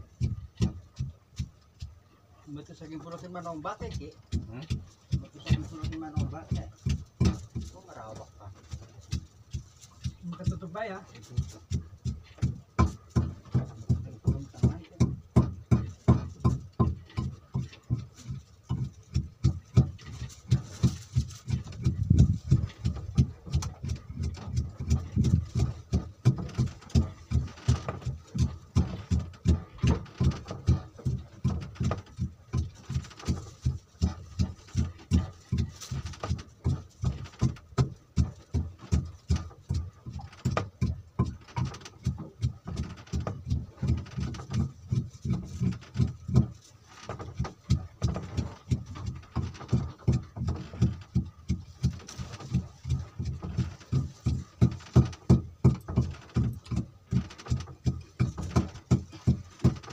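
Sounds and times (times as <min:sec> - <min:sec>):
small boat engine thumping: 0:00.0 - 0:59.9.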